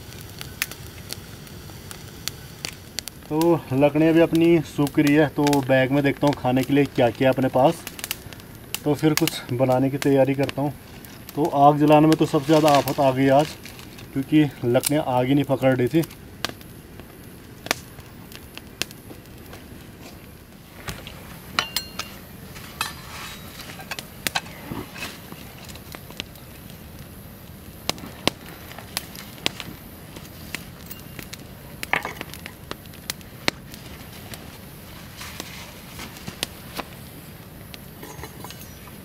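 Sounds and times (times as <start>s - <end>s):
campfire crackling and popping: 0.0s - 39.0s
fire hissing: 0.0s - 39.0s.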